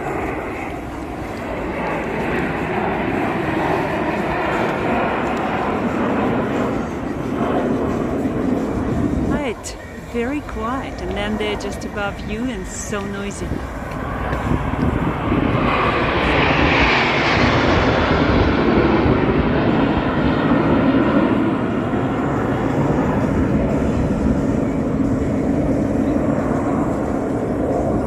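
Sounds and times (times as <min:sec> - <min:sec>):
jet roar with high whine: 0:00.0 - 0:28.0.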